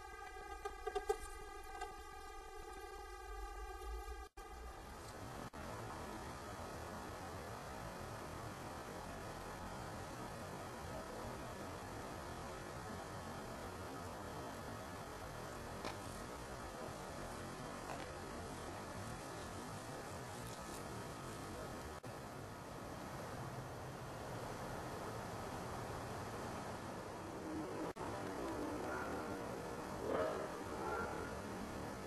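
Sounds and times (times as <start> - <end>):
background hiss and hum: 0.0 - 32.0.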